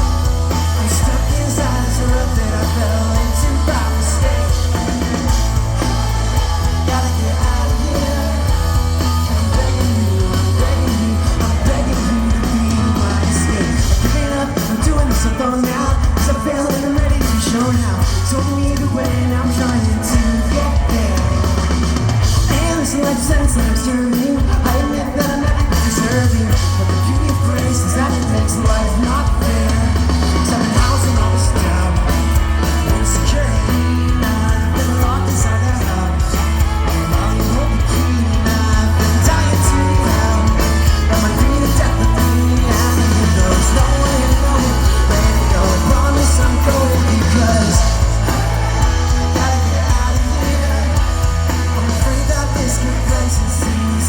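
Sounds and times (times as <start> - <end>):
lead singer singing: 0.0 - 54.0
pop-punk band playing live: 0.0 - 54.0.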